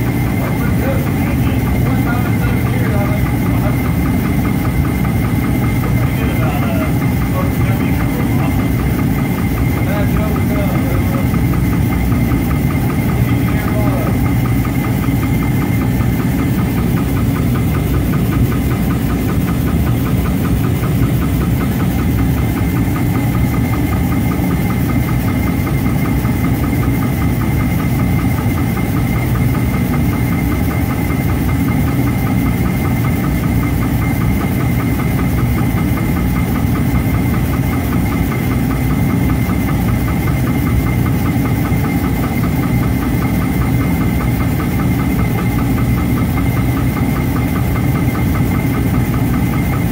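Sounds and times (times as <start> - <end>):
machine running with high whine: 0.0 - 49.9.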